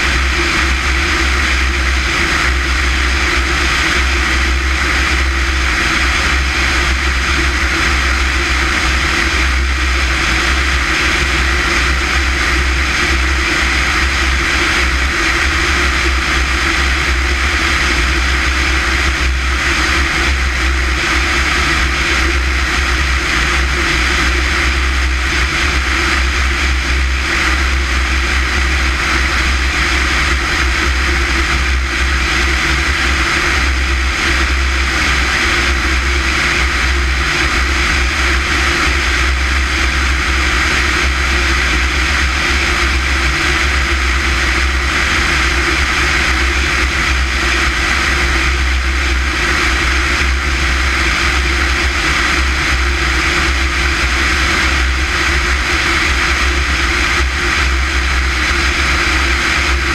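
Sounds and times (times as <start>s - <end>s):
propeller airplane engine drone: 0.0s - 59.9s
rushing airflow: 0.0s - 59.9s.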